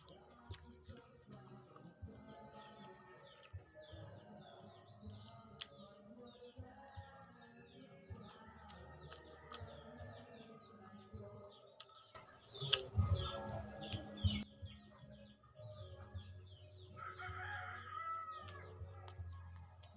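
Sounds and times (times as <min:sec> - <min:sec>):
soft chewing: 0:00.0 - 0:15.0, 0:17.0 - 0:19.9
small birds chirping: 0:00.0 - 0:19.9.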